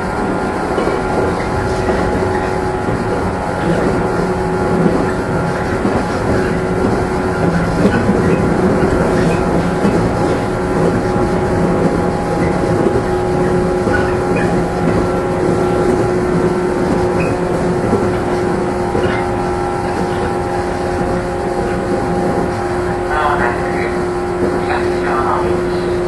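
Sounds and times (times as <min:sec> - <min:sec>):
train motor hum: 0:00.0 - 0:26.0
wheels rumbling on rail: 0:00.0 - 0:26.0.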